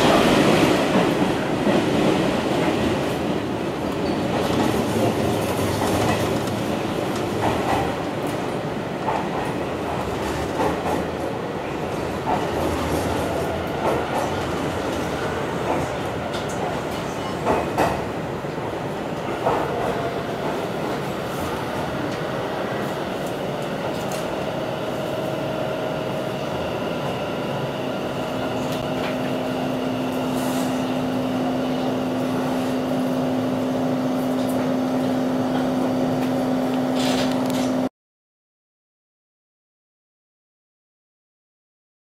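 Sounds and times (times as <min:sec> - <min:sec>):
electric train running slowly: 0:00.0 - 0:37.9.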